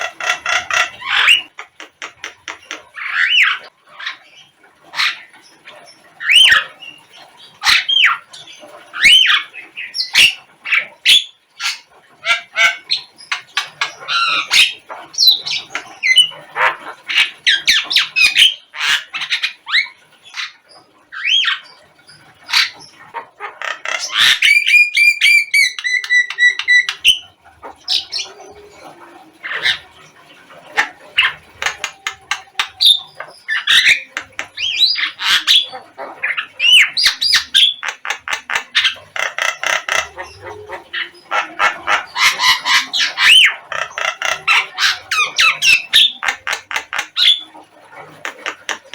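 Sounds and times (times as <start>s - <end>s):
birds squawking and chattering: 0.0s - 48.9s.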